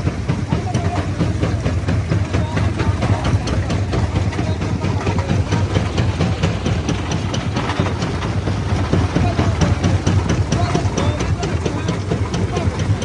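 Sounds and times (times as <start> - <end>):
jaw crusher mechanical drone: 0.0 - 13.0.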